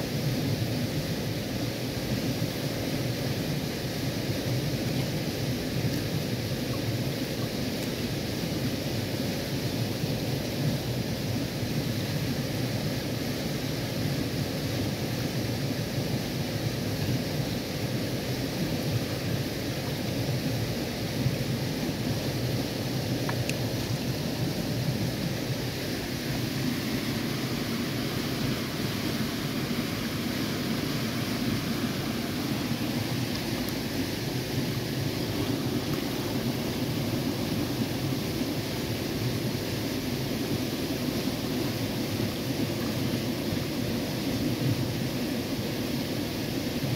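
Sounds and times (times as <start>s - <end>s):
stream flowing over stones: 0.0s - 46.9s.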